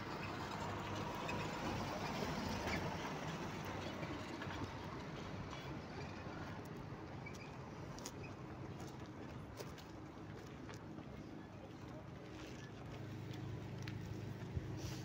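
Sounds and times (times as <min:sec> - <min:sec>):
car driving slowly: 0:00.0 - 0:15.0.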